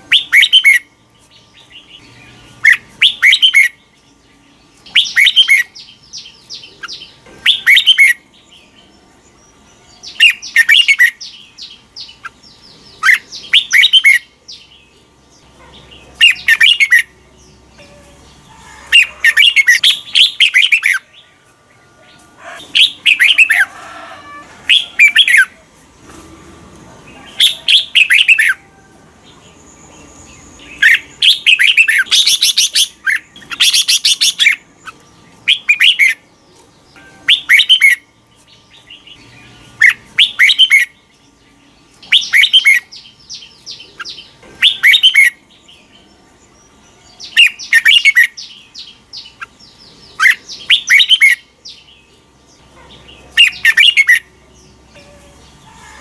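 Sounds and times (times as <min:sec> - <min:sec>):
bird singing warbled phrases: 0:00.0 - 0:21.5, 0:22.4 - 0:25.7, 0:27.0 - 0:56.0.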